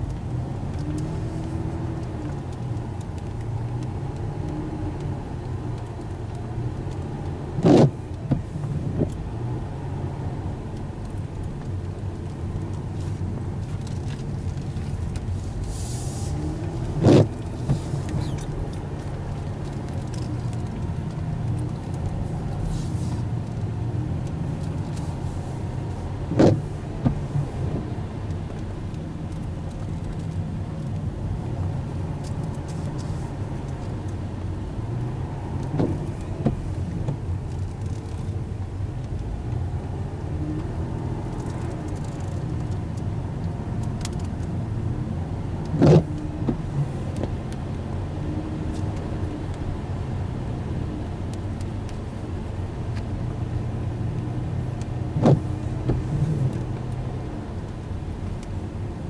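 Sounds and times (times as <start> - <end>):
engine and road rumble: 0.0 - 59.0
tyre noise on wet road: 0.0 - 59.0.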